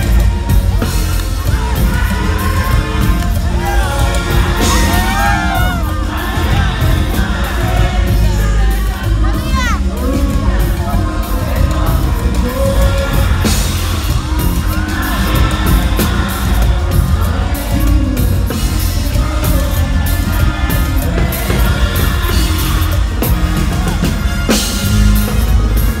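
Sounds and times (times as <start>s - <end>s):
audience yelling and whooping: 0.0s - 26.0s
live concert music with heavy bass: 0.0s - 26.0s.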